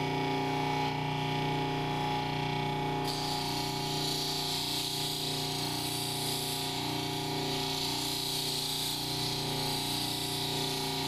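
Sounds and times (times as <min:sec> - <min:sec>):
flat lap motor hum: 0:00.0 - 0:11.0.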